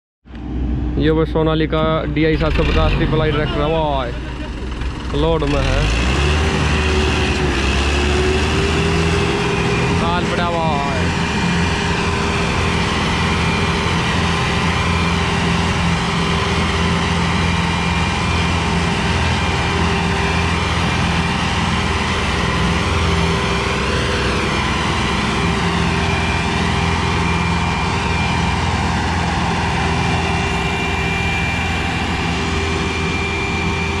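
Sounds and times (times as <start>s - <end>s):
high whine: 0.3s - 34.0s
tractor diesel engine droning: 0.3s - 34.0s.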